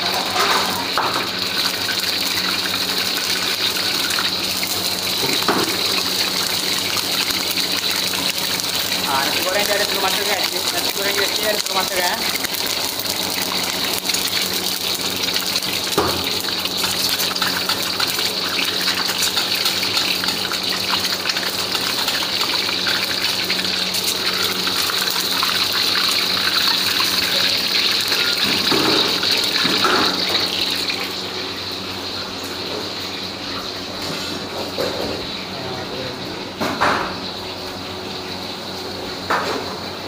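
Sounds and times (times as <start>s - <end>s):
egg sizzling in hot oil: 0.0s - 35.6s.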